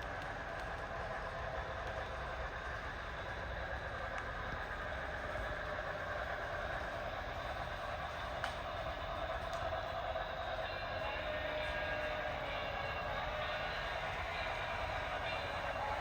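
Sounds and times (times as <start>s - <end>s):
model train rolling: 1.0s - 16.0s.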